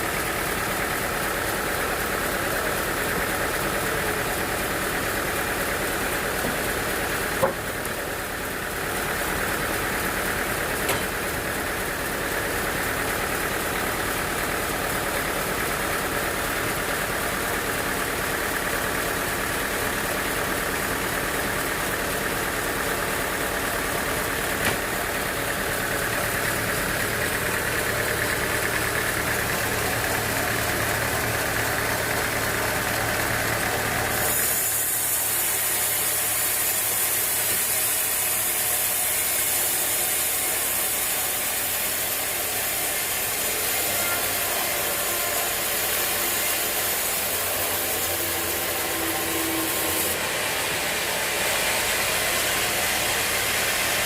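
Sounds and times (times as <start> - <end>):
motor running steadily: 0.0 - 54.0.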